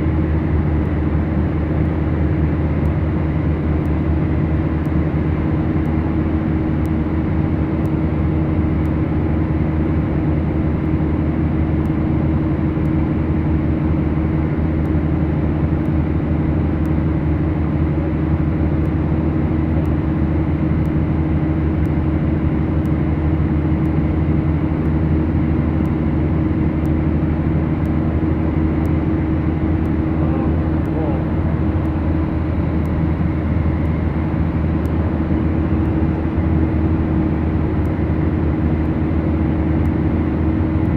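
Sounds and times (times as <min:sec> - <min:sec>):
propeller aircraft engines droning: 0:00.0 - 0:40.9.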